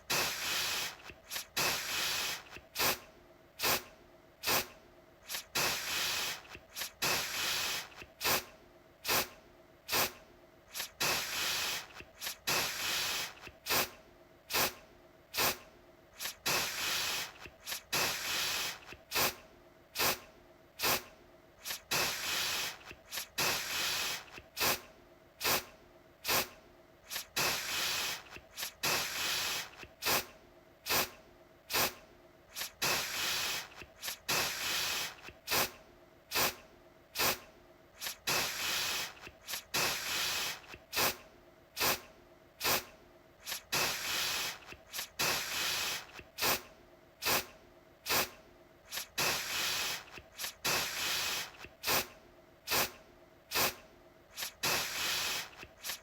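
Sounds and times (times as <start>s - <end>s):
aerosol can spraying: 0.0s - 3.0s, 3.6s - 15.6s, 16.2s - 19.4s, 20.0s - 20.2s, 20.8s - 24.8s, 25.4s - 30.3s, 30.9s - 36.6s, 37.2s - 37.4s, 38.0s - 41.2s, 41.8s - 52.1s, 52.7s - 56.0s.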